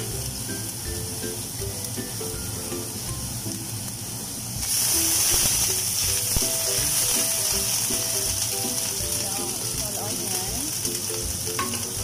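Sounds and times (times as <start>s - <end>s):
aromatics sizzling in hot oil: 0.0s - 12.0s.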